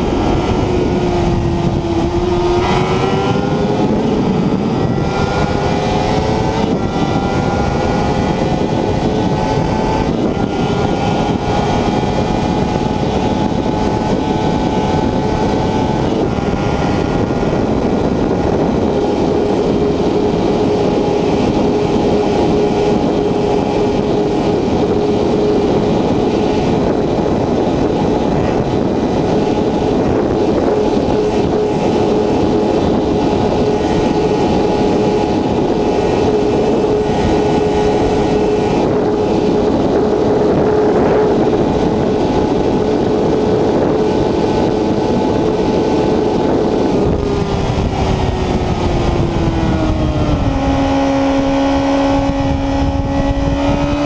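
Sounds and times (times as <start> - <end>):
heavy wind rush: 0.0 - 54.0
motorcycle engine at high revs: 0.0 - 54.0.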